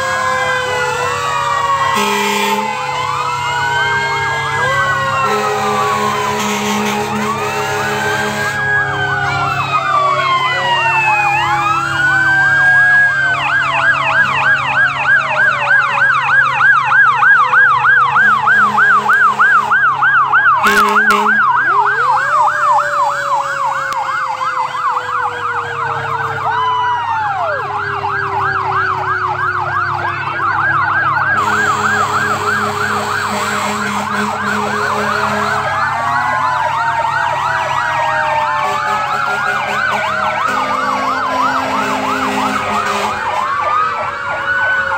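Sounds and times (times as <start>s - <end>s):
fire engine sirens wailing: 0.0s - 44.9s
siren fast warbling yelp: 0.0s - 44.9s.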